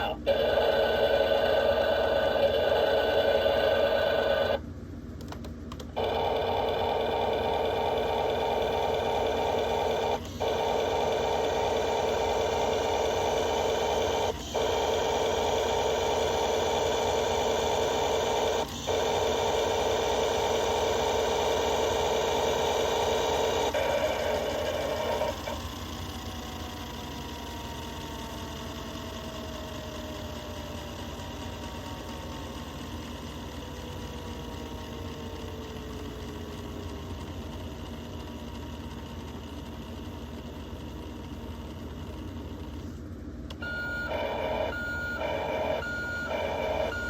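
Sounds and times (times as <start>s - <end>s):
toy engine sound effect: 0.0s - 4.7s, 5.8s - 47.0s.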